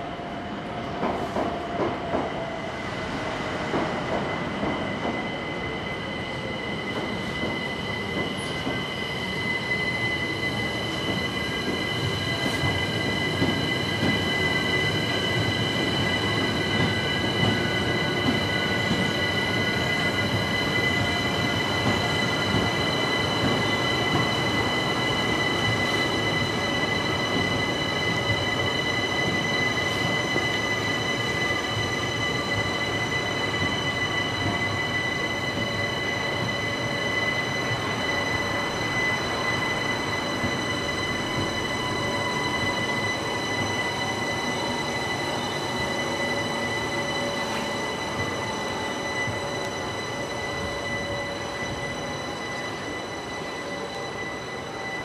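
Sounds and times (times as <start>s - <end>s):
high train whine: 0.0s - 55.0s
train wheels rumbling on rail: 0.0s - 55.0s.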